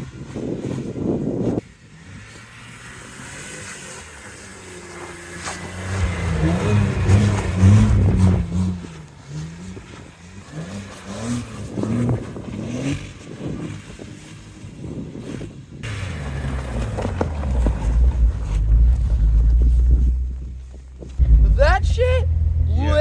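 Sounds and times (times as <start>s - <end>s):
wheels spinning in snow: 0.0s - 23.0s
car engine revving: 2.0s - 14.0s, 15.8s - 23.0s.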